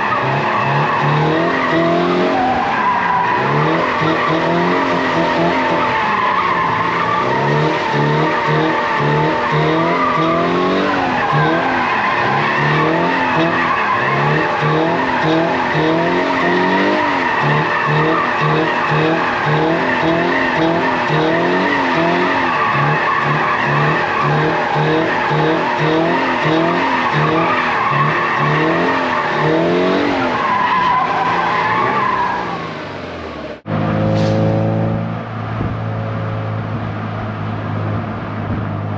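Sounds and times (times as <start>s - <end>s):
tyres squealing: 0.0s - 32.6s
car engine revving: 0.0s - 38.9s.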